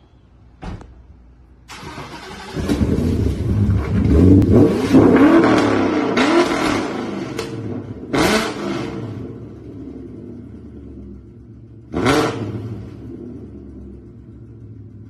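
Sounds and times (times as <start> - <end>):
car engine revving: 1.7 - 15.0.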